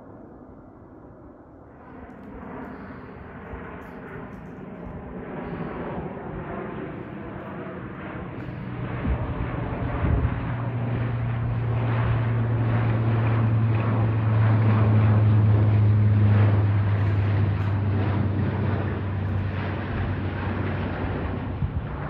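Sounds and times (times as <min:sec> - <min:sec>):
propeller airplane flying overhead: 0:00.0 - 0:22.0.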